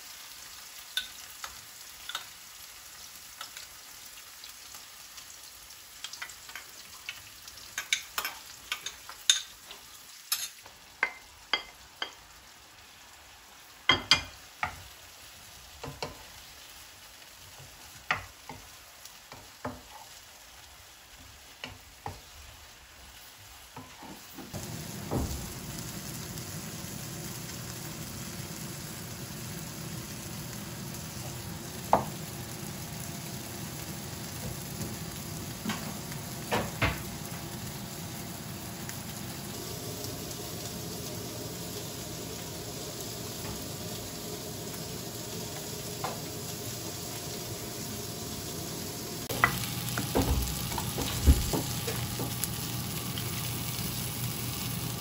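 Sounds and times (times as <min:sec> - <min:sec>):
food sizzling in frying oil: 0:00.0 - 0:55.0.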